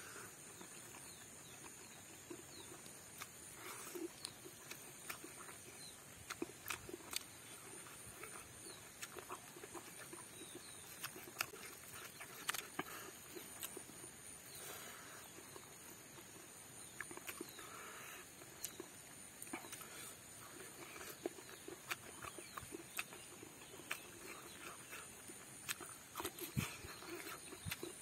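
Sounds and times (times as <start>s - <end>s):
man chewing with smacking: 0.1s - 28.0s.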